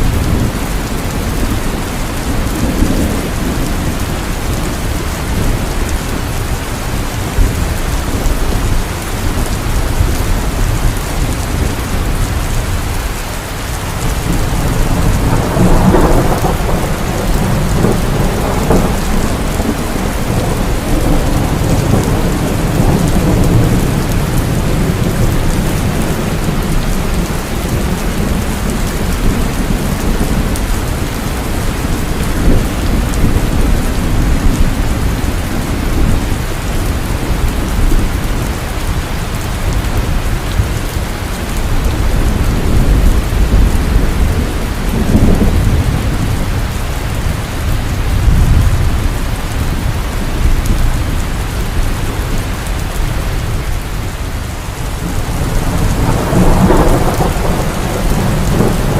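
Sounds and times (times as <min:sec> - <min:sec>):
heavy rainfall: 0:00.0 - 0:58.9
low thunder rumbling: 0:00.0 - 0:58.9.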